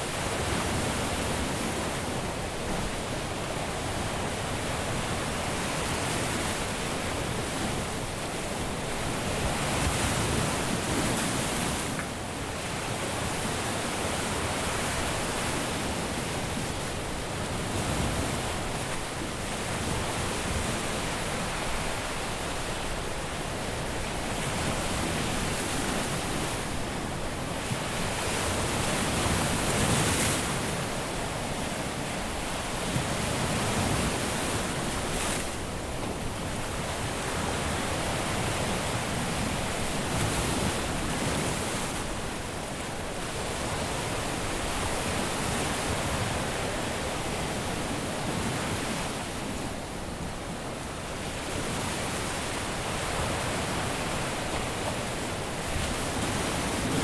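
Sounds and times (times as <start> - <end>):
surf breaking on a beach: 0.0 - 57.0.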